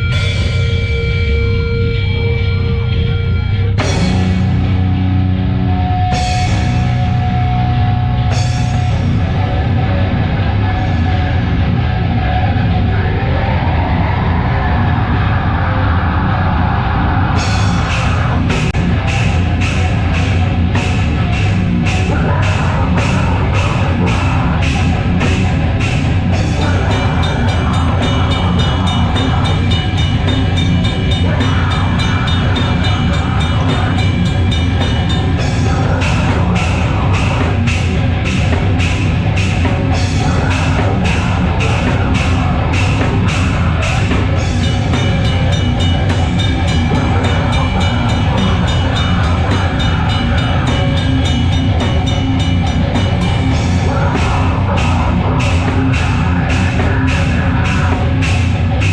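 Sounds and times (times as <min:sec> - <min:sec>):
heavy metal band playing: 0:00.0 - 0:58.9.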